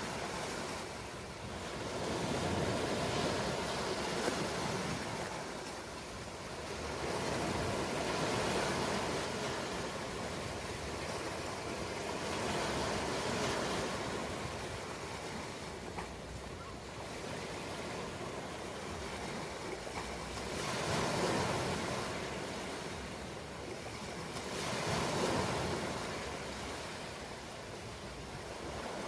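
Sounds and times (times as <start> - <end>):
ocean waves breaking on shore: 0.0 - 29.0.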